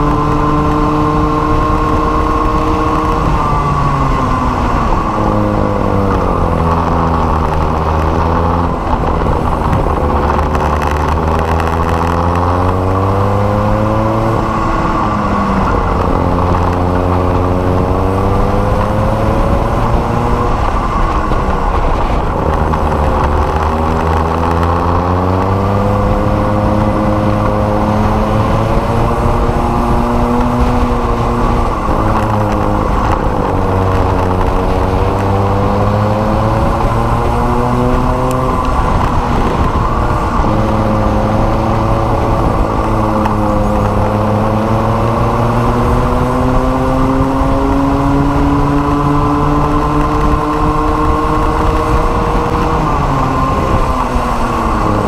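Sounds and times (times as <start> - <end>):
kart engine at full throttle: 0.0 - 55.0
wind rush: 0.0 - 55.0.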